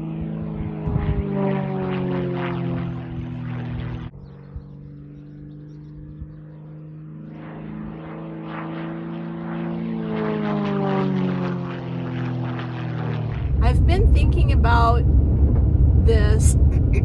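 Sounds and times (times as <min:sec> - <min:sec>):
propeller airplane flying past: 0:00.0 - 0:17.0.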